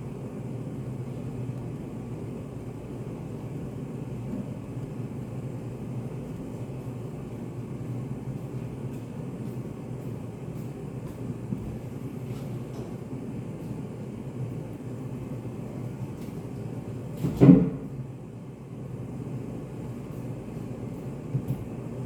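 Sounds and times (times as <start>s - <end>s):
room ambience hum: 0.0s - 22.0s.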